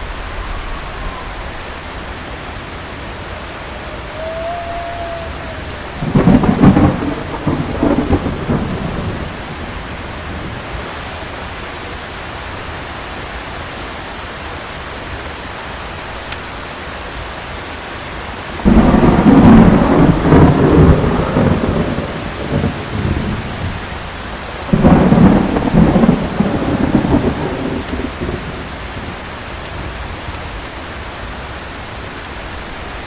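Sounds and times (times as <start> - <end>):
thunder rumbling: 0.0 - 12.2, 18.5 - 33.0
heavy rain: 0.0 - 33.0.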